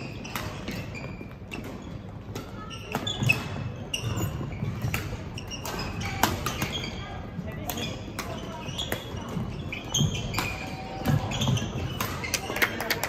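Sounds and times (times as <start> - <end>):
rackets striking shuttlecock: 0.0 - 12.5
shoes squeaking on court floor: 0.0 - 13.0.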